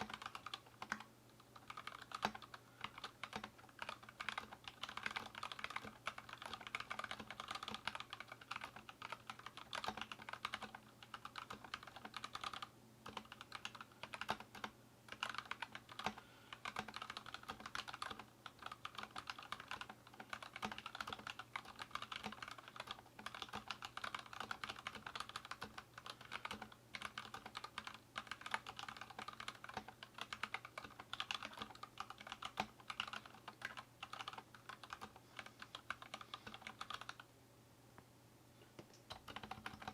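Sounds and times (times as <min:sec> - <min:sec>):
fast mechanical keyboard typing: 0:00.0 - 0:37.2, 0:39.1 - 0:39.9.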